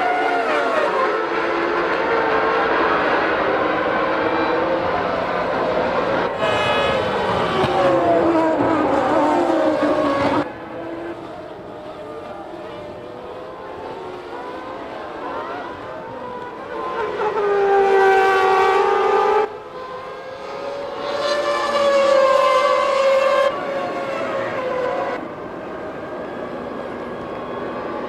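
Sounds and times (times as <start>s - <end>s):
racing car engines screaming: 0.0s - 25.2s.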